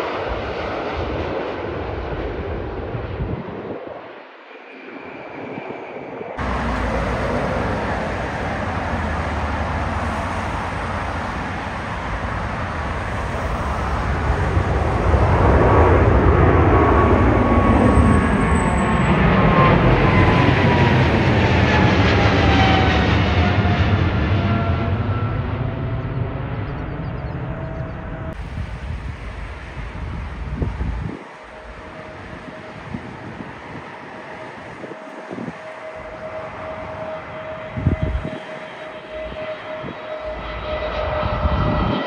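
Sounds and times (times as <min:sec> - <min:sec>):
jet airliner roaring overhead: 0:00.0 - 0:42.0
jet engine whine: 0:00.0 - 0:42.0.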